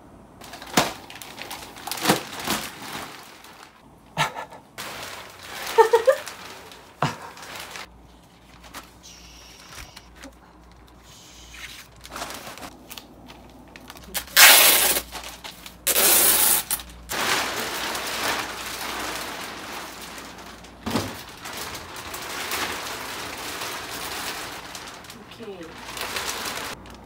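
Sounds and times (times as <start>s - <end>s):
plastic bag rustling and crackling: 0.4s - 3.9s, 4.8s - 27.0s.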